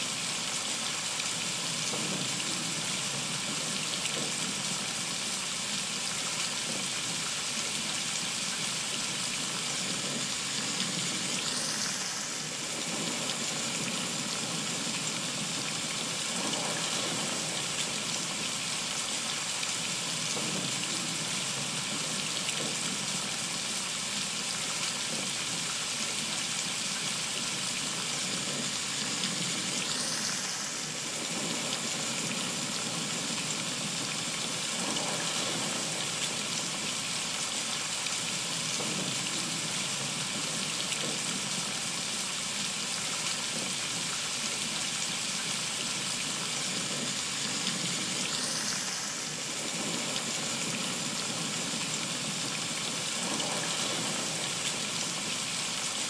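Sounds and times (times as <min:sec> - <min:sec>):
heavy rain on trees and deck: 0:00.0 - 0:56.0.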